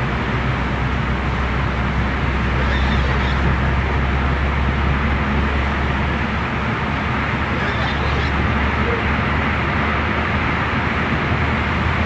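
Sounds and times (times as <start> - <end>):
car road noise drone: 0.0 - 12.0.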